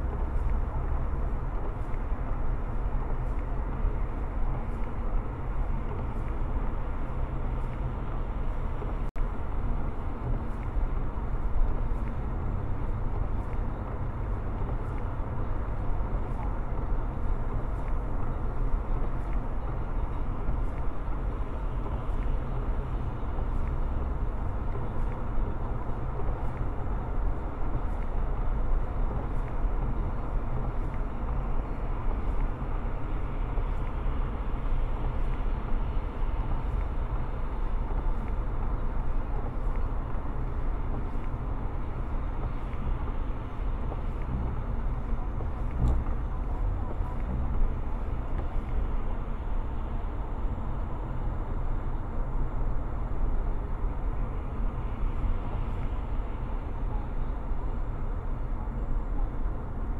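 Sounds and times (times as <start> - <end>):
car cabin road rumble: 0.0 - 59.9.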